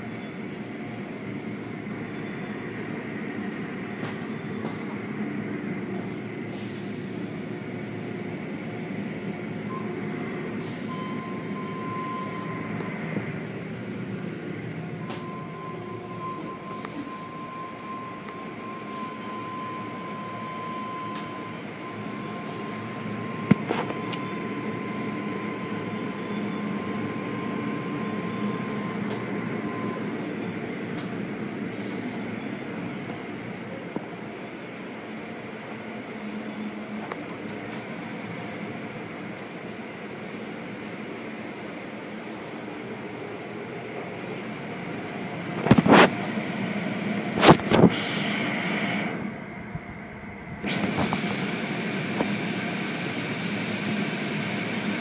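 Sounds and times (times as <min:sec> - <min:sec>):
car wash rumble and water spray: 0:00.0 - 0:55.0
thin steady whine: 0:00.0 - 0:55.0.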